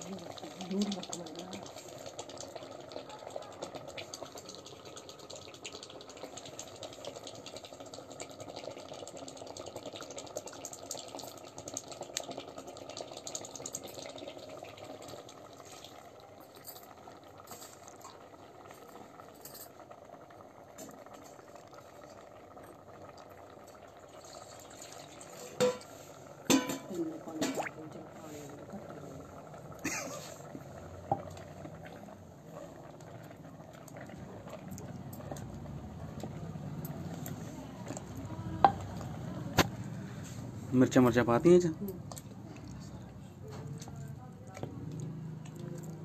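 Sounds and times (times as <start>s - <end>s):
pot bubbling over fire: 0.0s - 46.0s.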